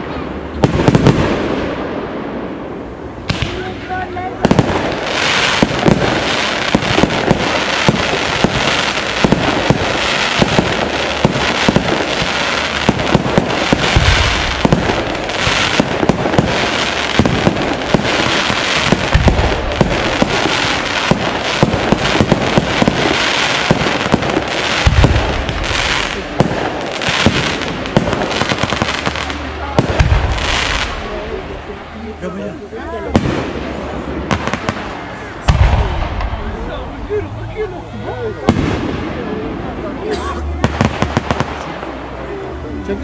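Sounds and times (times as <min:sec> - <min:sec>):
fireworks popping: 0:00.0 - 0:01.9, 0:03.2 - 0:31.4, 0:33.1 - 0:37.0, 0:38.4 - 0:39.2, 0:40.5 - 0:42.0
deep firework booms: 0:00.0 - 0:31.6, 0:33.1 - 0:37.1, 0:38.4 - 0:39.8, 0:40.6 - 0:41.9.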